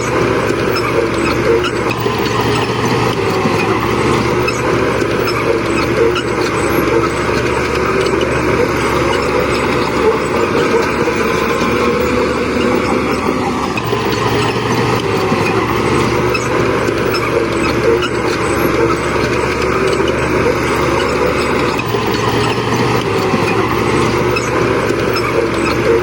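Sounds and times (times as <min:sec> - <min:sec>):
heavy machinery diesel engines: 0:00.0 - 0:26.0.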